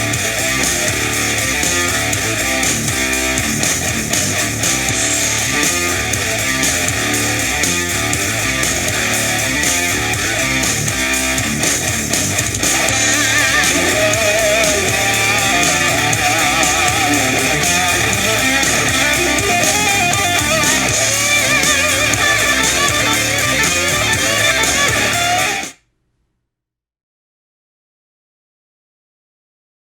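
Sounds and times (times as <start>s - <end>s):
electric guitar music from speaker: 0.0s - 25.8s.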